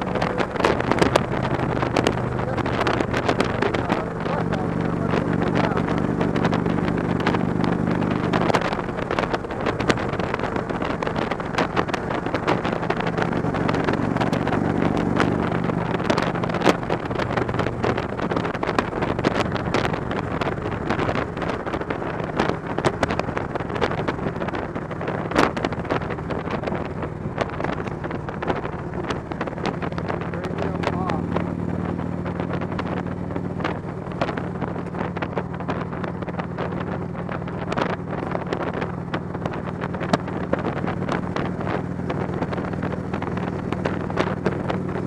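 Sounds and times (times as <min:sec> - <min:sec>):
motorcycle engine cruising: 0:00.0 - 0:45.0
wind buffeting microphone: 0:00.0 - 0:45.0.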